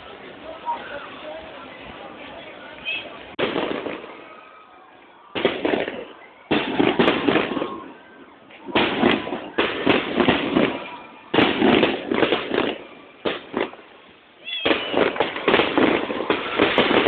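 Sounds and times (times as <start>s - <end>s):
crackling firework bangs: 2.9s - 17.0s.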